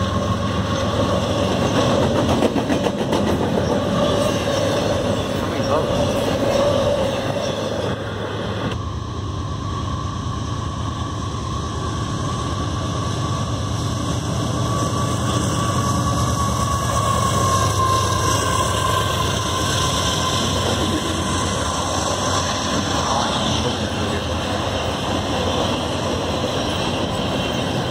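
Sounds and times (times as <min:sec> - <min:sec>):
freight train rumble: 0:00.0 - 0:27.9.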